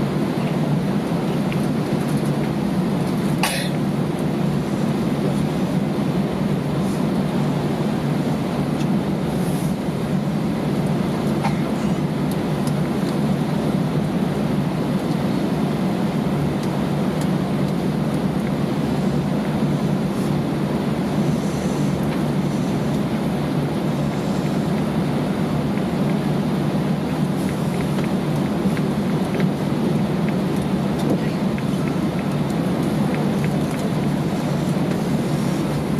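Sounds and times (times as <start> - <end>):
aircraft cabin low rumble: 0.0 - 35.9.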